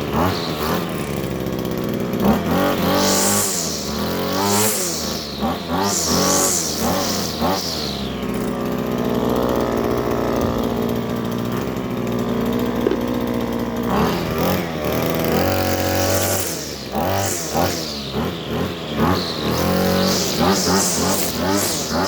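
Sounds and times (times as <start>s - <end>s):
string trimmer revving: 0.0s - 22.0s.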